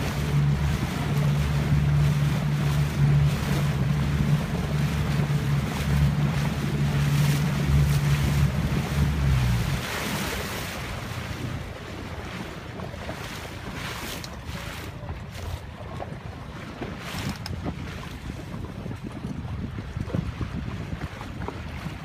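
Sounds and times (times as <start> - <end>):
water lapping around boat: 0.0 - 22.0
wind buffeting microphone: 0.0 - 22.0.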